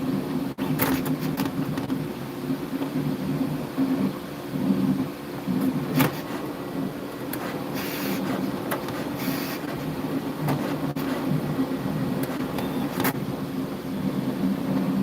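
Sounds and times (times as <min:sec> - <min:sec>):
printer motors humming: 0:00.0 - 0:15.0.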